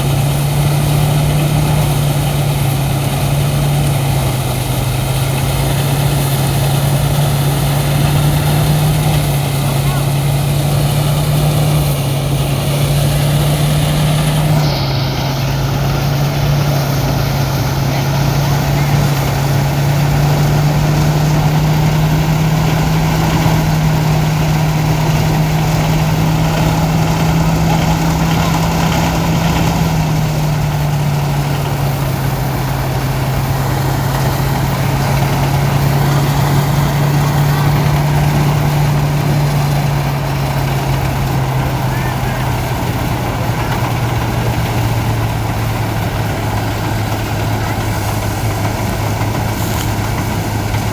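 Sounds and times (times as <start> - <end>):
thresher engine droning with clatter: 0.0 - 50.9.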